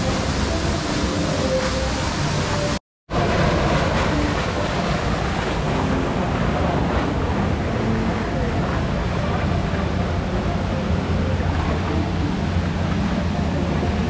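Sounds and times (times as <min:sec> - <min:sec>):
small waterfall pouring: 0:00.0 - 0:14.0
water splashing in a pool: 0:00.0 - 0:14.0.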